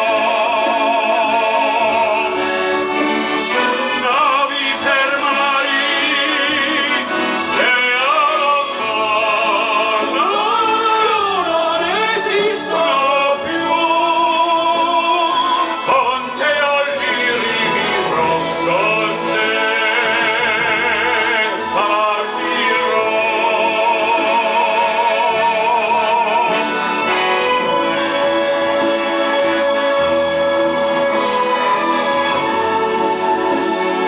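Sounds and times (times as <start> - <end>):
man singing with vibrato: 0.0 - 34.0
accordion: 0.1 - 34.0.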